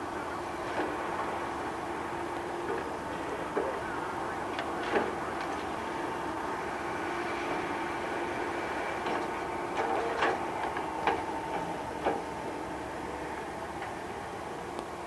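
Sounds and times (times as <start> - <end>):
diesel engine drone with whine: 0.0 - 15.0.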